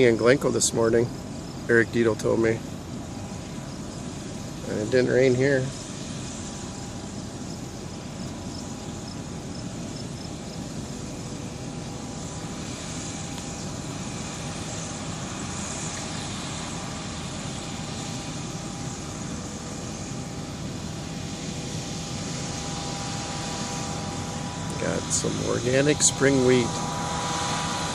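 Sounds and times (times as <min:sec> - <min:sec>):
fan noise: 0:00.0 - 0:27.9
machinery engine drone: 0:00.0 - 0:27.9.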